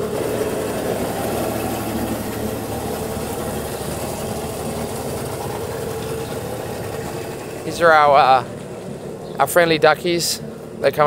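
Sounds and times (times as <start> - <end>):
jet ski engine idling: 0.0 - 11.0.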